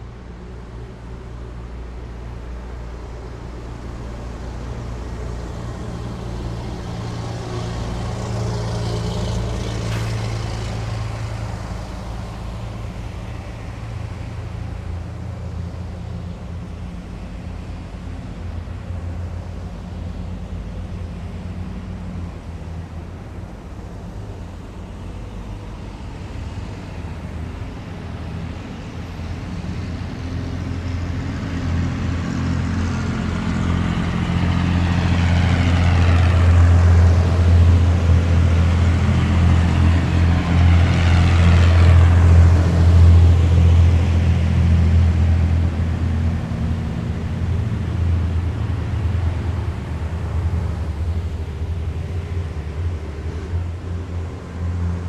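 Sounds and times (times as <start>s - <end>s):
heavy vehicle engine drone: 0.0s - 55.0s
running gear whine: 0.7s - 55.0s.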